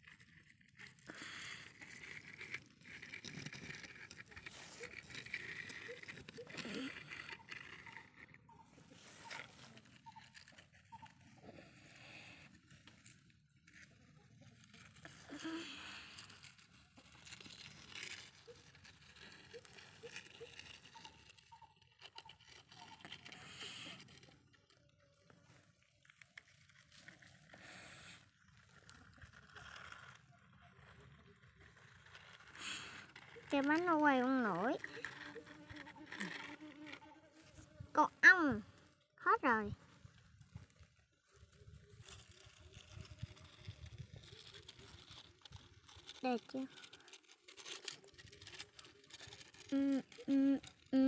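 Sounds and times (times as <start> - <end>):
toy cars scraping on sandy dirt: 0.0 - 51.0.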